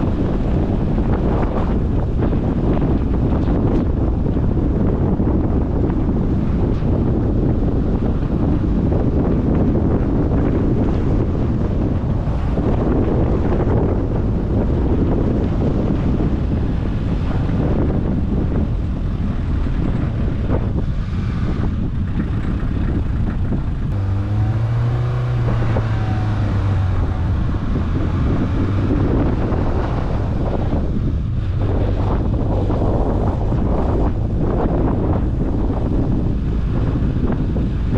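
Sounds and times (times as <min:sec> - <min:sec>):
low engine hum: 0:00.0 - 0:37.9
wind and road noise: 0:00.0 - 0:37.9.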